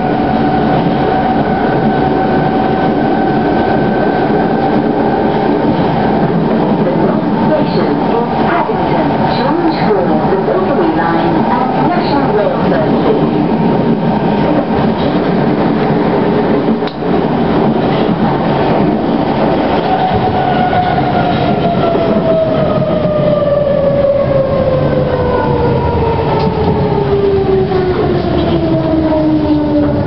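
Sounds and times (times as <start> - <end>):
falling whine of train slowing: 0.0 - 30.0
train wheels rumbling on rail: 0.0 - 30.0.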